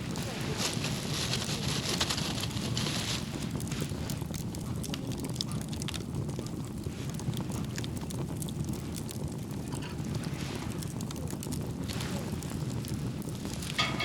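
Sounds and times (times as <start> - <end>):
wind rumble on microphone: 0.0 - 14.0
wood fire crackling: 0.0 - 14.0.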